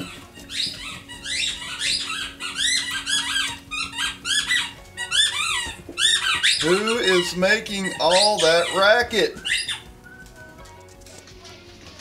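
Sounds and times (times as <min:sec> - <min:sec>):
small animal squeaky calls: 0:00.0 - 0:10.8.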